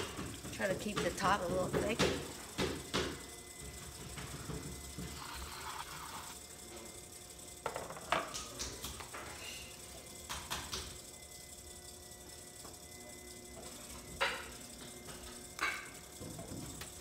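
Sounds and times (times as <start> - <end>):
potter's wheel humming: 0.0 - 17.0.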